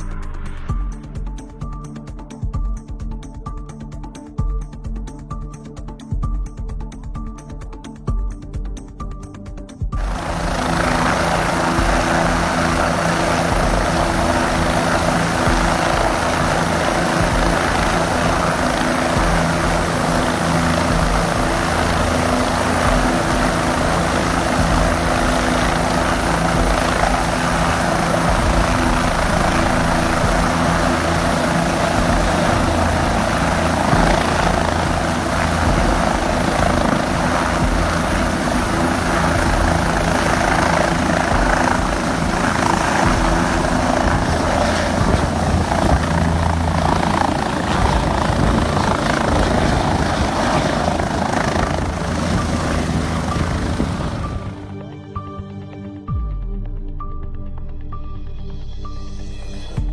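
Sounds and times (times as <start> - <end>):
helicopter rotor and engine: 0.0 - 56.2.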